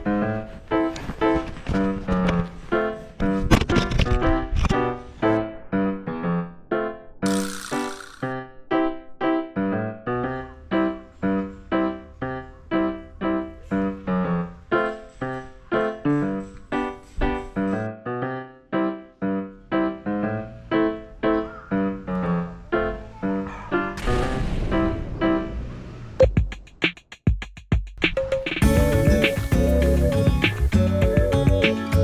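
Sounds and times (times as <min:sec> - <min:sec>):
piano-like keyboard notes: 0:00.0 - 0:25.7, 0:28.6 - 0:32.0.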